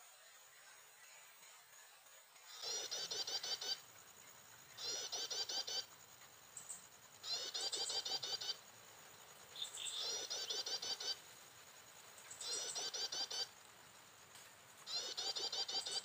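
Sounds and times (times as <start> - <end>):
prinia chirping: 2.4 - 16.0.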